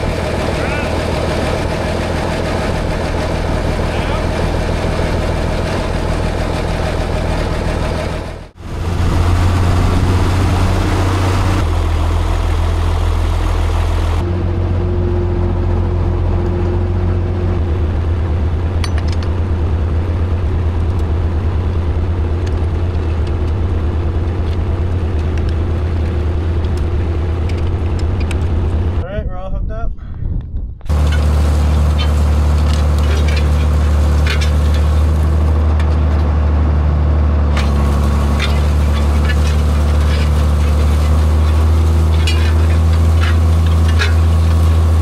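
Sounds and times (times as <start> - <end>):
tractor engine running: 0.0 - 29.0, 30.8 - 45.0.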